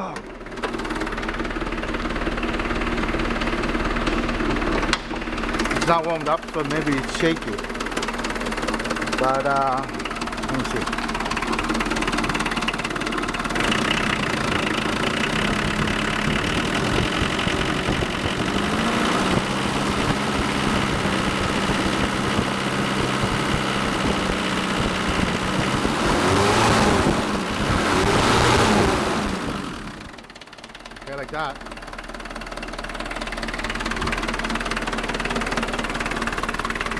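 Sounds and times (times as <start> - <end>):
diesel engine idling: 0.0 - 36.9
engine revving: 0.0 - 36.9.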